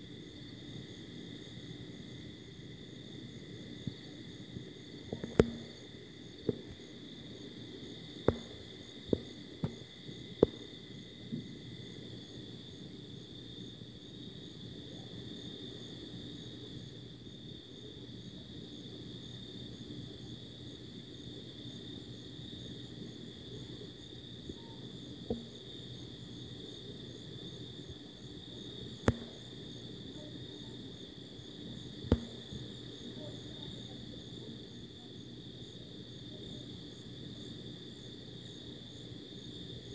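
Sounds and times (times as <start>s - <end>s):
faint low hum: 0.0s - 39.9s
night insects chirring: 0.0s - 39.9s.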